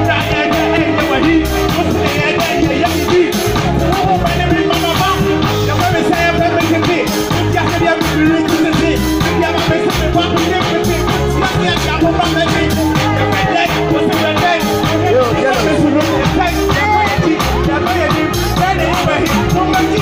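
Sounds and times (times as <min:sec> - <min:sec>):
bass guitar: 0:00.0 - 0:20.0
drum kit beat: 0:00.0 - 0:20.0
person rapping: 0:00.0 - 0:20.0.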